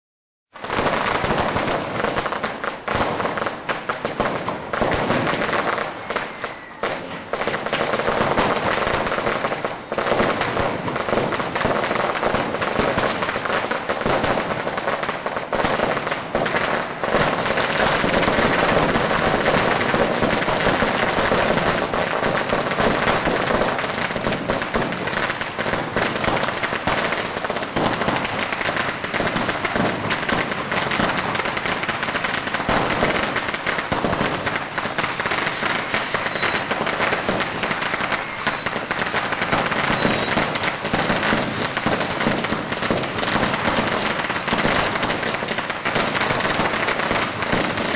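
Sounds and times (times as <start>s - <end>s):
firecrackers crackling: 0.5s - 47.9s.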